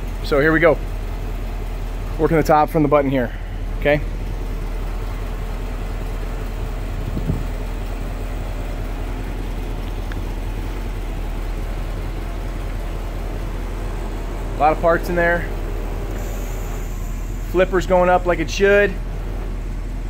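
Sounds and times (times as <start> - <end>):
convertible top motor humming: 0.0 - 20.0.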